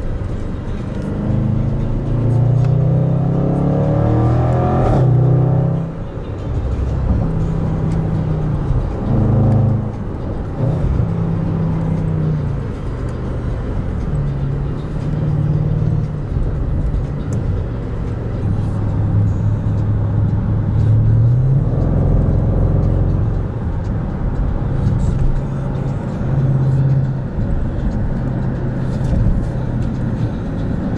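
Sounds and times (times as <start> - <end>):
car engine and exhaust revving: 0.0 - 30.9.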